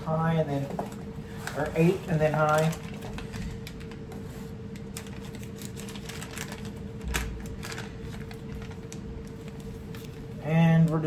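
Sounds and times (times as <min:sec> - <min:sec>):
faint steady hum: 0:00.0 - 0:11.0
plastic bag crinkling: 0:00.6 - 0:10.4.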